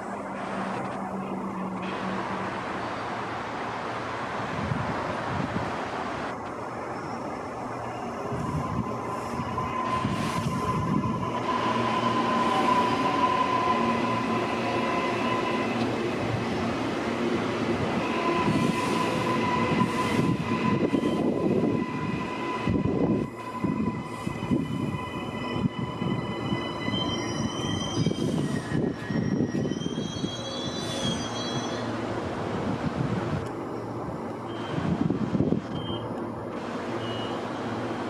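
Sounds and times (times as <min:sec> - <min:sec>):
electric train rumble: 0:00.0 - 0:38.0.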